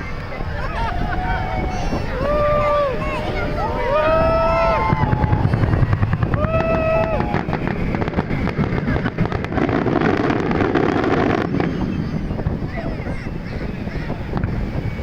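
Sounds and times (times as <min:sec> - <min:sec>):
firework crackling: 0:00.0 - 0:15.0
firework boom: 0:00.2 - 0:15.0.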